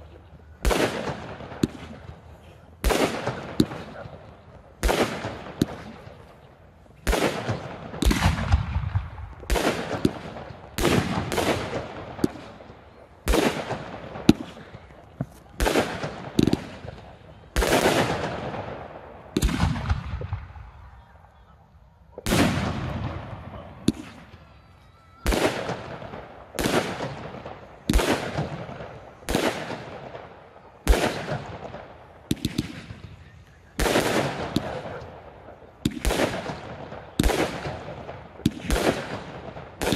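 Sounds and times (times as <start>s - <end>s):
rolling echo: 0.0s - 39.9s.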